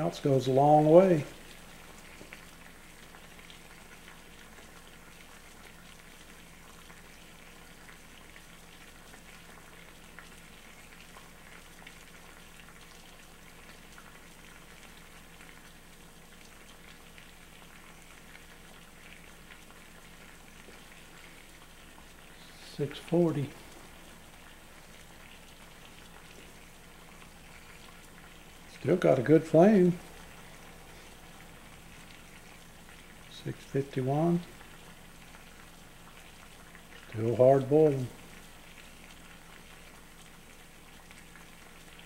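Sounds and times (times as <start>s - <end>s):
water boiling with pops: 0.0s - 42.0s.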